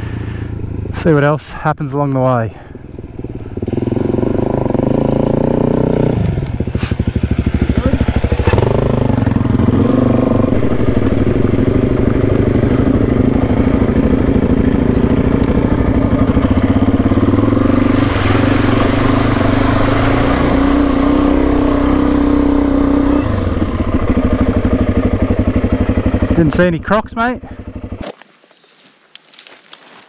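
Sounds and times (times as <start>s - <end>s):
motorcycle engine running: 0.0s - 1.4s, 2.2s - 28.0s.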